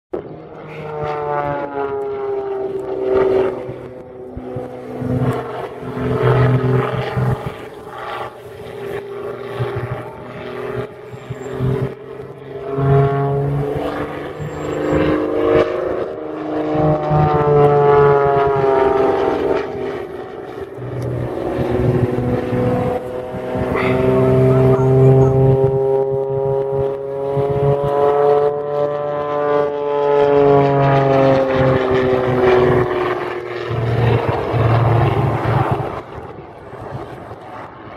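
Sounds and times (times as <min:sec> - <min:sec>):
biplane engine and propeller: 0:00.1 - 0:37.9.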